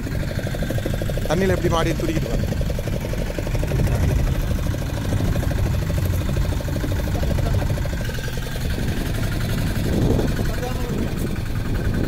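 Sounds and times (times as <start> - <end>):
diesel boat engine idling: 0.0 - 12.0.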